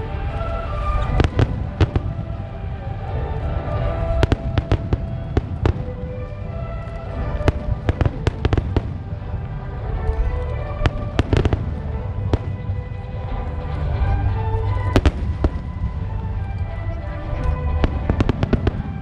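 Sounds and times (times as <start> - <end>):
fireworks bangs: 0.0 - 19.0
low rumble: 0.0 - 19.0
music of held notes: 0.0 - 19.0.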